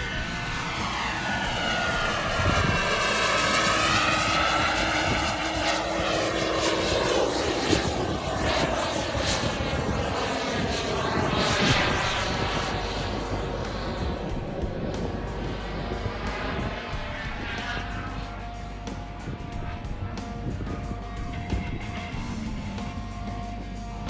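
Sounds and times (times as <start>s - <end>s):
model jet turbine whine: 0.0s - 24.0s.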